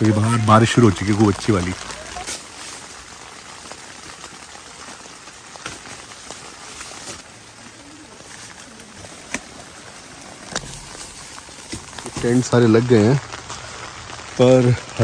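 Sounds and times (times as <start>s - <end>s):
heavy rain on a tent: 0.0s - 15.0s.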